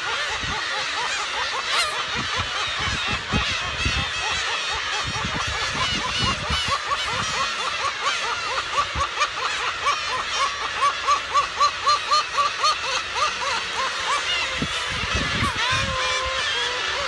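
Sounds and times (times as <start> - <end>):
gull colony calling: 0.0 - 17.0
gull rapid calls: 0.0 - 17.0.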